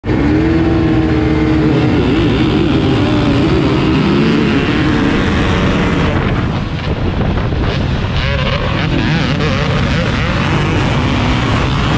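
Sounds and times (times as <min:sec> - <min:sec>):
dirt bike engine revving: 0:00.0 - 0:11.9.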